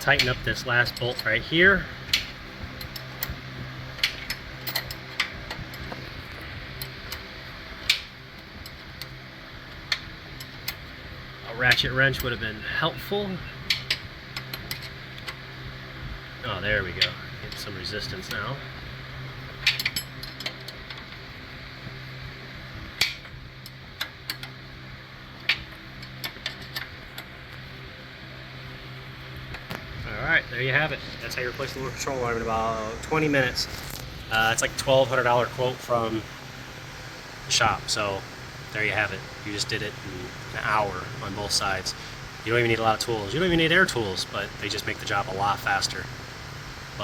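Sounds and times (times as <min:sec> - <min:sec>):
fan humming: 0:00.0 - 0:47.0.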